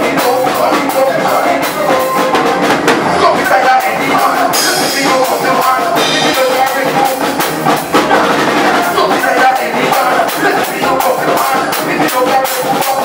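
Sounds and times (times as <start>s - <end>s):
drum kit beat: 0.0s - 13.0s
soca band playing: 0.0s - 13.0s.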